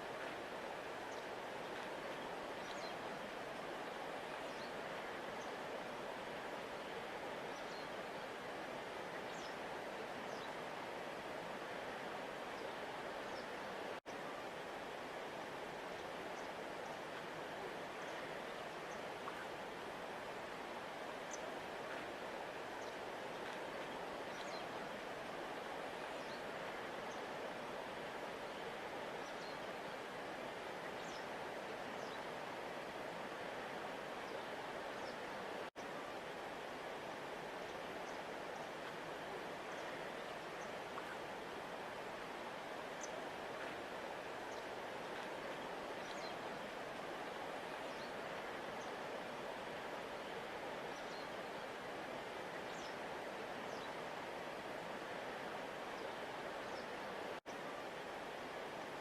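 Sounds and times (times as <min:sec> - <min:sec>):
river rushing: 0:00.0 - 0:59.0.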